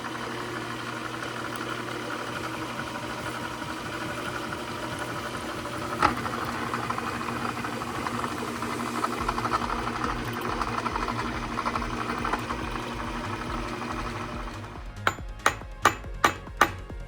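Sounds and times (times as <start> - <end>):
shop machine chattering hum: 0.0 - 17.0.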